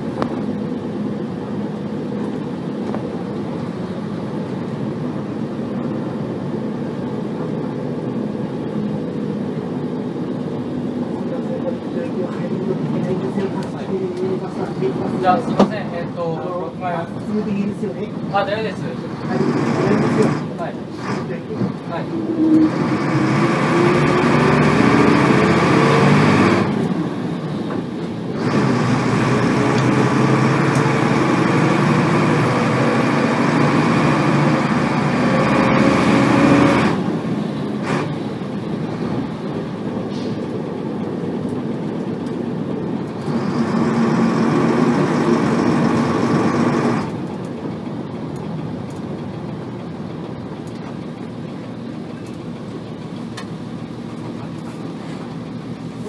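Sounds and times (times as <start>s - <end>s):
diesel bus engine revving: 0.0s - 56.0s
transmission gear whine: 0.0s - 56.0s.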